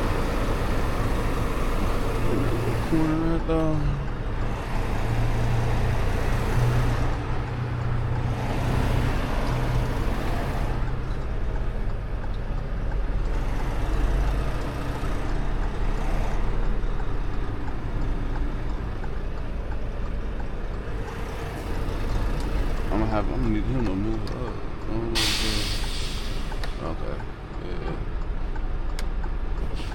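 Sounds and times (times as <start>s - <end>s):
diesel truck engine humming: 0.0s - 29.9s.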